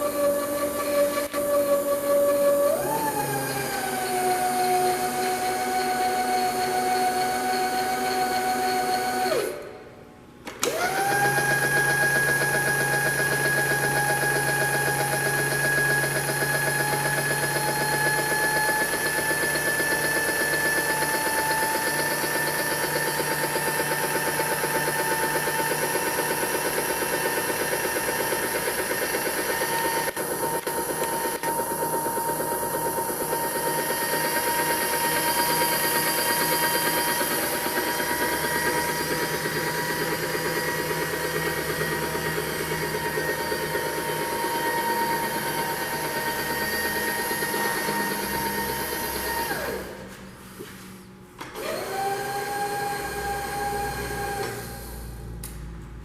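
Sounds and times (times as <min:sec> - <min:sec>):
milling machine motor whining: 0:00.0 - 0:09.7, 0:10.6 - 0:50.1.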